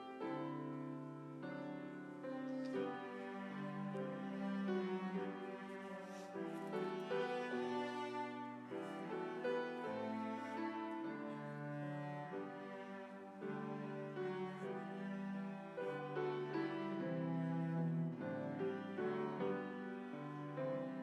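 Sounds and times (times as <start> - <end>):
slow instrumental music: 0.0 - 21.0.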